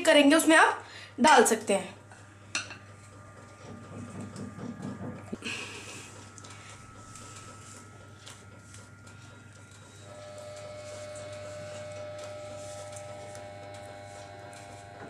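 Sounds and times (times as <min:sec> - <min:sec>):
low electrical hum: 0:00.0 - 0:15.0
high steady whine: 0:01.2 - 0:15.0.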